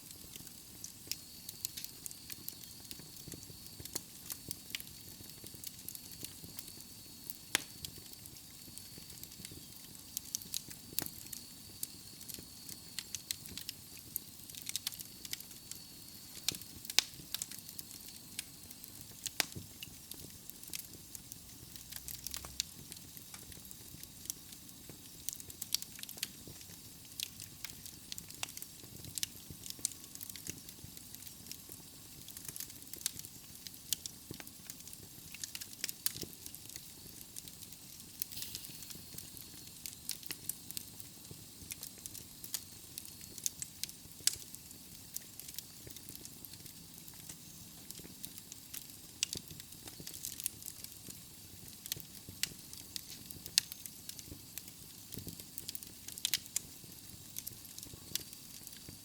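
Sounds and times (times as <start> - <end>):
logs crackling and popping: 0.1 - 59.0.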